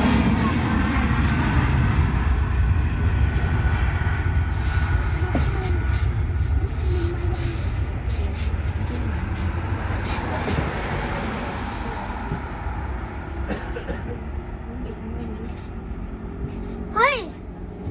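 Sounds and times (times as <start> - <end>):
airplane engines roaring on takeoff: 0.0 - 17.9.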